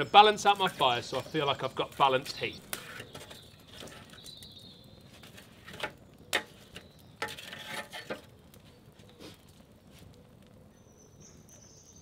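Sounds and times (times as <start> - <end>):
metal tongs scraping fire bowl: 0.0 - 10.2.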